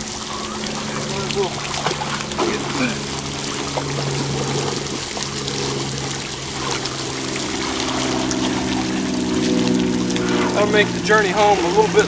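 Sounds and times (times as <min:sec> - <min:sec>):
fountain jets splashing into pool: 0:00.0 - 0:12.0
steady low hum: 0:00.0 - 0:12.0.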